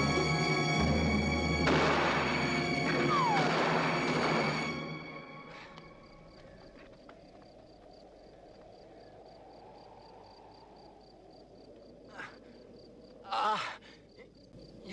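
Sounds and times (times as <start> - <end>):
insects chirping: 0.0 - 14.9.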